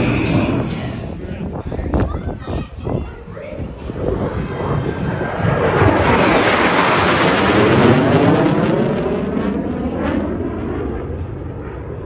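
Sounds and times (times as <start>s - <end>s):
jet roaring past: 0.0s - 1.9s, 3.0s - 12.0s.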